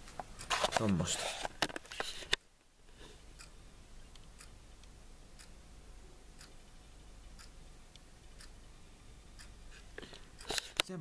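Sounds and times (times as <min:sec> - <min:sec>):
faint regular ticking: 0:00.0 - 0:01.1, 0:02.3 - 0:11.0
low room hum: 0:00.0 - 0:11.0.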